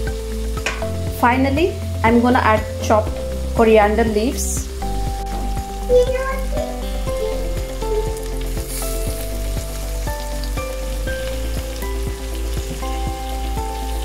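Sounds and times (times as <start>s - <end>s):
background music with steady beat: 0.0s - 14.0s
food sizzling in a pot: 0.0s - 14.0s.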